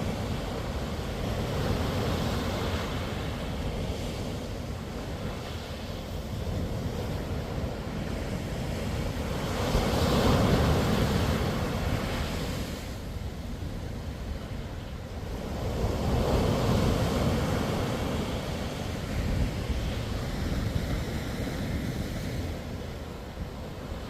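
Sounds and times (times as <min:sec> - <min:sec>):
waves breaking on a beach: 0:00.0 - 0:24.0
wind rumble on microphone: 0:00.0 - 0:24.0.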